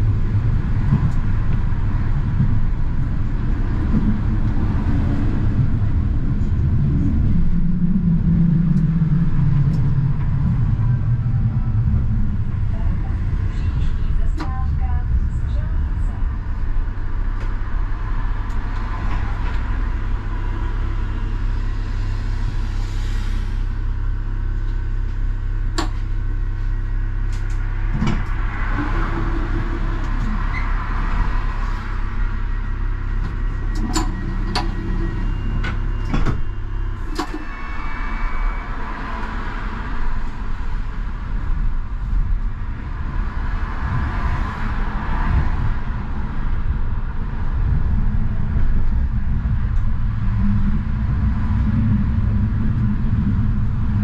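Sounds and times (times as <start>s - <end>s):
tram electrical hum: 0.0s - 54.0s.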